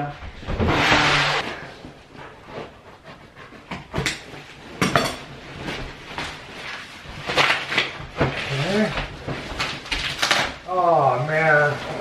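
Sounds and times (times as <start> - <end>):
sheet flooring rustling and crackling: 0.0 - 12.0.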